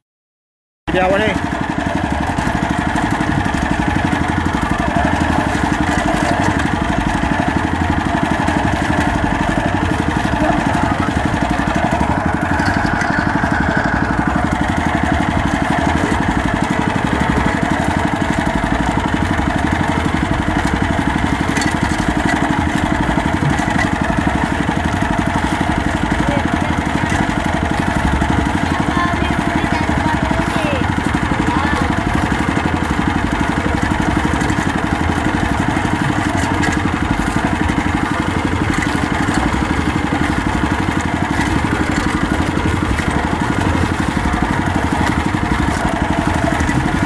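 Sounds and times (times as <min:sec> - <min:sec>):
boat engine puttering: 0:00.9 - 0:47.0.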